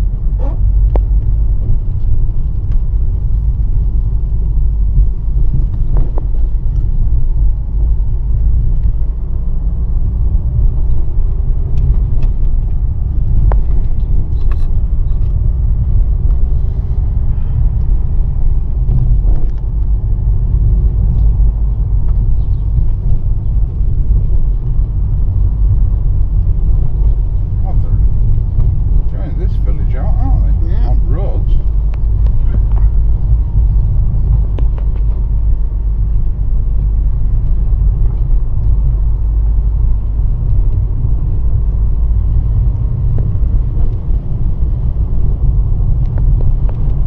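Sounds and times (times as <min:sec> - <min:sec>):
tyres and engine rumble: 0:00.0 - 0:47.0.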